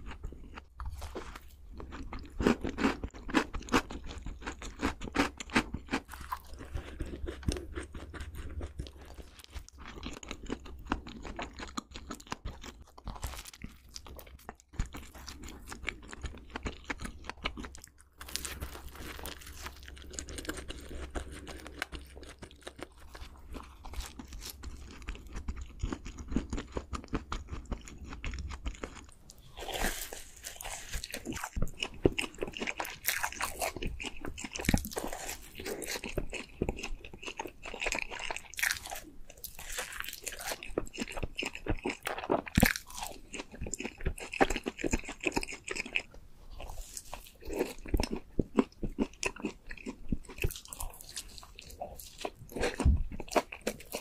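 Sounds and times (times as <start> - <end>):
chewing and crunching donuts: 0.0 - 54.0.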